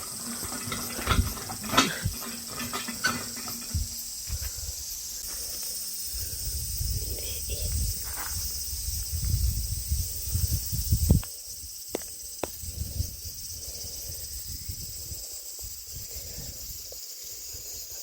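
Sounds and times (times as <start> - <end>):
cicadas shrilling: 0.0 - 18.0.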